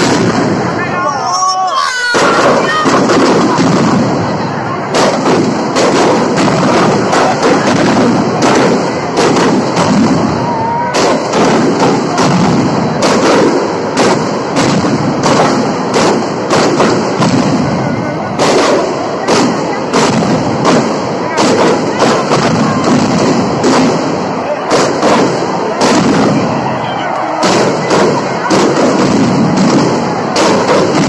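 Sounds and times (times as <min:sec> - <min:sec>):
firecrackers crackling: 0:00.0 - 0:31.0
loud firecracker bangs: 0:00.0 - 0:31.0.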